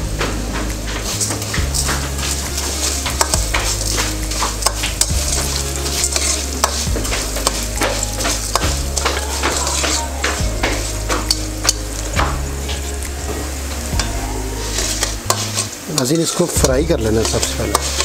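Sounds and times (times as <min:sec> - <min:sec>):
light sizzle of frying: 0:00.0 - 0:18.0
metal spoon scraping pan: 0:00.0 - 0:18.0
steady low hum: 0:00.0 - 0:18.0.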